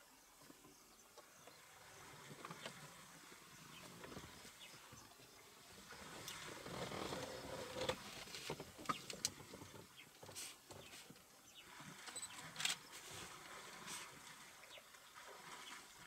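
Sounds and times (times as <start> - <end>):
water splashing and sloshing: 0.4 - 16.0.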